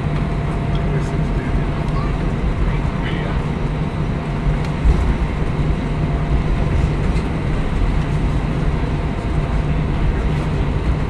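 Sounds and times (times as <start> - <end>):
jet engine noise: 0.0 - 11.0
wheels rumbling on runway: 0.0 - 11.0.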